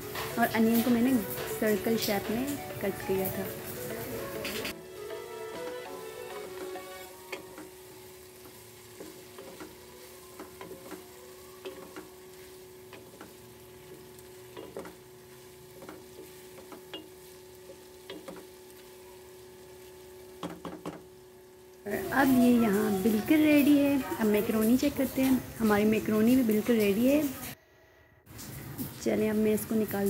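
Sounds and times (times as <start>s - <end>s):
food sizzling in a frying pan: 0.0s - 27.6s, 28.3s - 30.0s.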